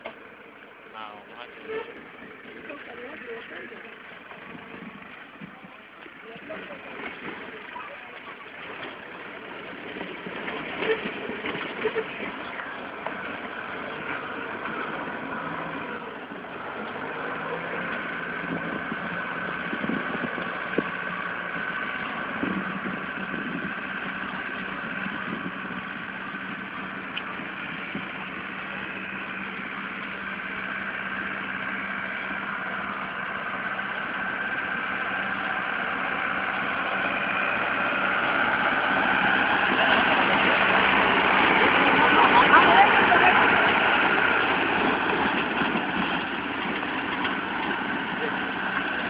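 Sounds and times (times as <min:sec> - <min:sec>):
tractor engine running under load: 0:00.0 - 0:49.0.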